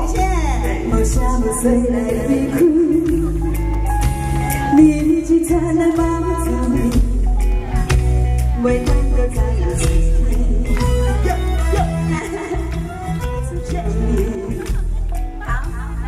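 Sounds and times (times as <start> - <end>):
woman singing into a microphone: 0.0 - 3.9, 4.6 - 7.5, 8.4 - 16.0
backing music with bass and drums: 0.0 - 16.0.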